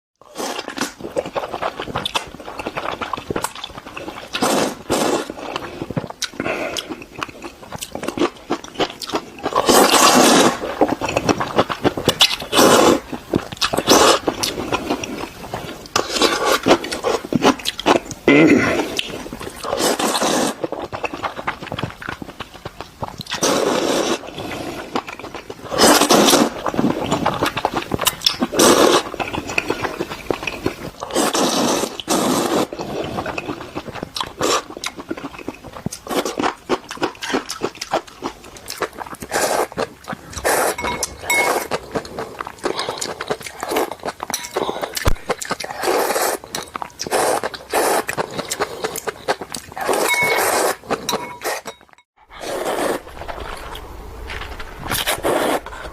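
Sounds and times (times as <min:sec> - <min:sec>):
noodle slurping: 0:00.3 - 0:53.9, 0:54.8 - 0:55.9
wet chewing clicks: 0:00.4 - 0:51.6.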